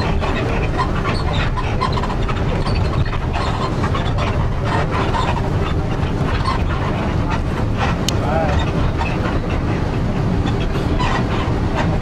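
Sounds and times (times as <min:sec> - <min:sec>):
engine rumble: 0:00.0 - 0:12.0
faint clicks and clatter: 0:00.0 - 0:12.0.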